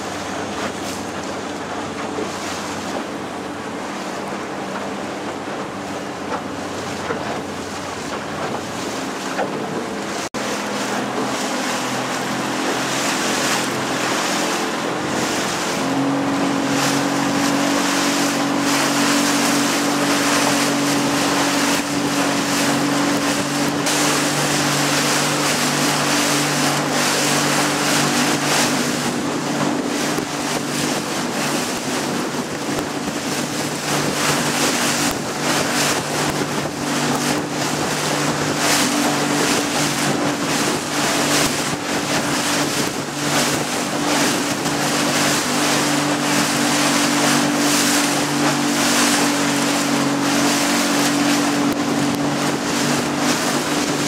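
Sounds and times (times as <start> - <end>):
boat motor droning: 0.0 - 54.0
wind buffeting microphone: 0.0 - 54.0.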